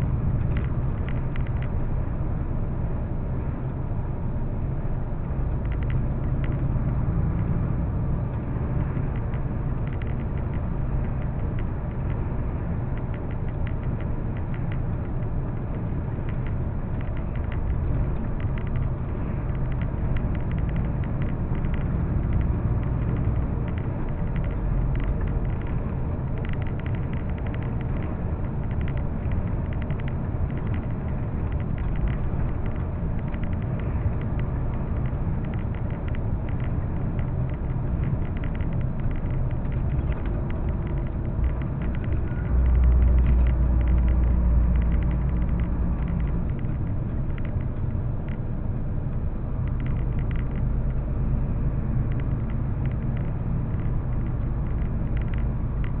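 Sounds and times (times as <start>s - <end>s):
engine and tyre rumble: 0.0s - 56.0s
low rumble: 0.0s - 56.0s.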